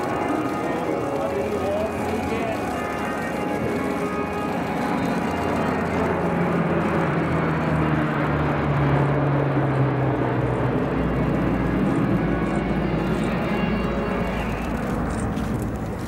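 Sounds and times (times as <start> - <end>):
turboprop aircraft flying past: 0.0 - 16.0.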